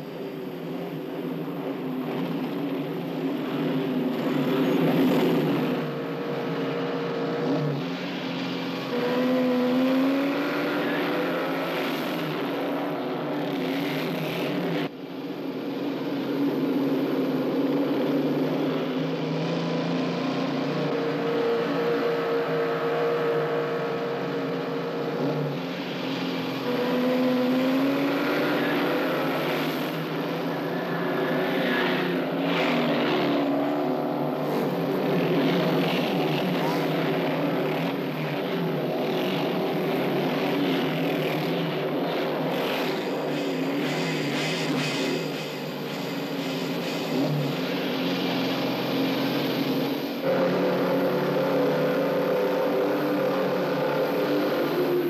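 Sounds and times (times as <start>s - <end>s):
motorcycle engines revving and passing: 0.0s - 55.0s.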